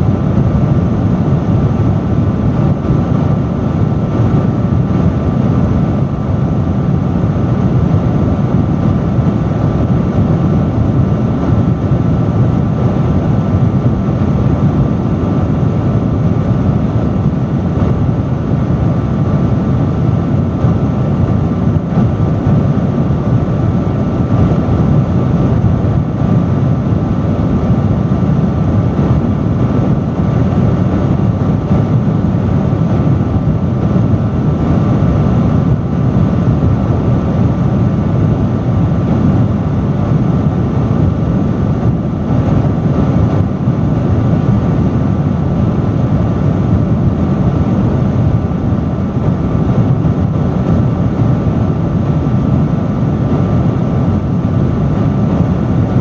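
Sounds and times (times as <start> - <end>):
faint steady whine: 0.0 - 56.0
industrial fan running: 0.0 - 56.0.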